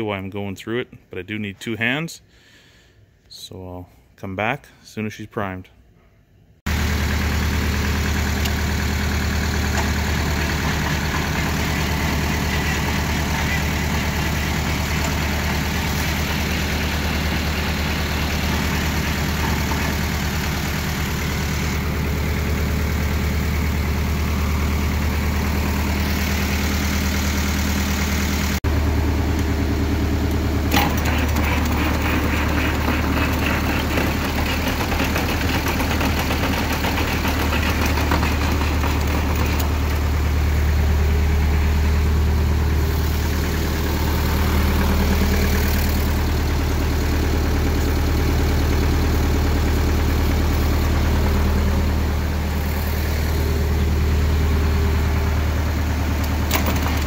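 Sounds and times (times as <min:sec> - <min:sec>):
steady engine drone: 0:06.7 - 0:57.0.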